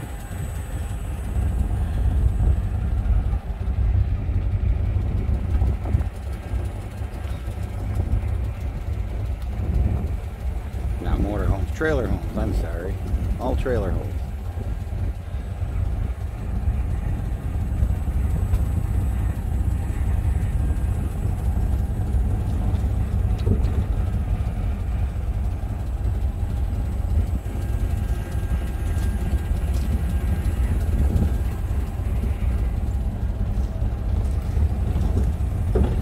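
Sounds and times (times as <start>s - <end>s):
vehicle engine and road rumble: 0.0s - 36.0s.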